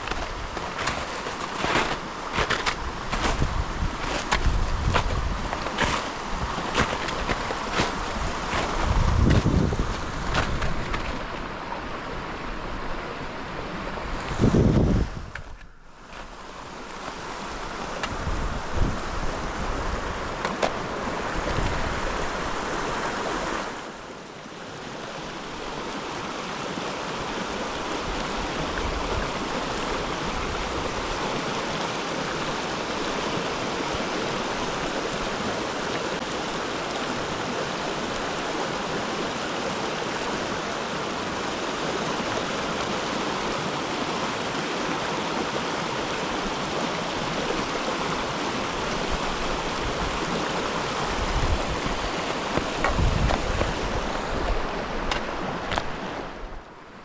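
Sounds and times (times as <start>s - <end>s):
flowing creek rushing: 0.0s - 57.0s.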